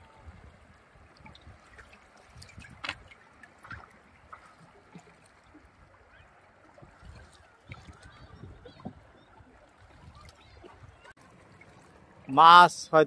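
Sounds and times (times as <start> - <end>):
paddle splashes and knocks: 0.0 - 12.4
water lapping against hull: 0.0 - 12.4.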